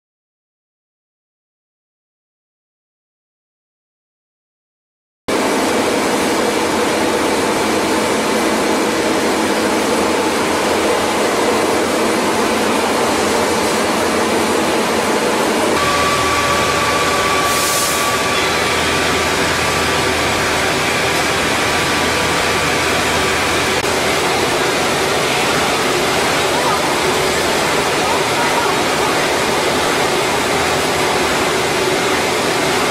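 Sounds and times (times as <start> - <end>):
high whine: 5.3 - 32.9
wood dryer machine rushing: 5.3 - 32.9.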